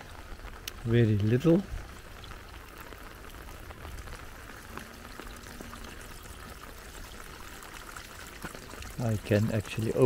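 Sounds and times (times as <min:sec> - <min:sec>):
light rain: 0:00.0 - 0:10.0
trickling water: 0:00.0 - 0:10.0.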